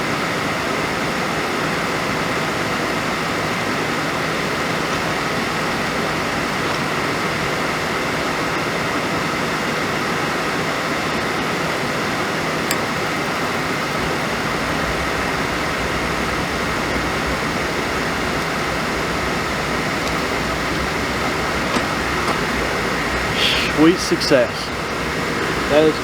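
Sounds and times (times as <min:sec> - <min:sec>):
faint steady whine: 0:00.0 - 0:26.0
furnace blower fan rushing air: 0:00.0 - 0:26.0.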